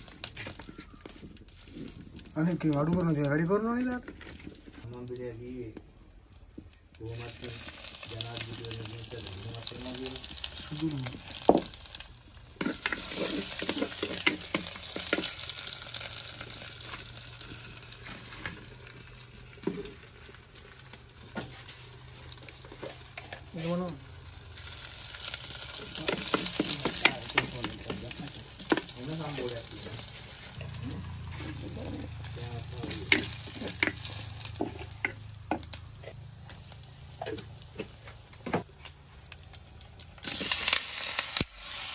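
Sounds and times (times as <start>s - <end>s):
food sizzling in hot oil: 0.0s - 41.9s.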